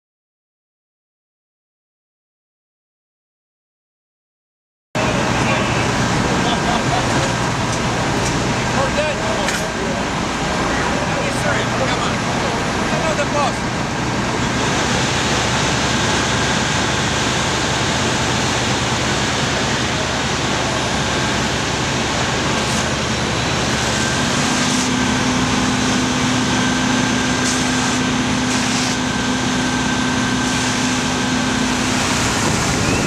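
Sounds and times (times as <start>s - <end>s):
diesel pump engines droning: 5.0s - 33.0s
steady hum: 5.0s - 33.0s.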